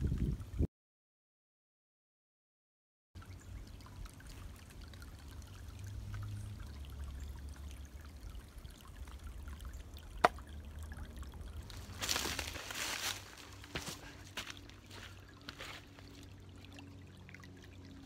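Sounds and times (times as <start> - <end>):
creek trickling over stones: 3.2 - 18.0.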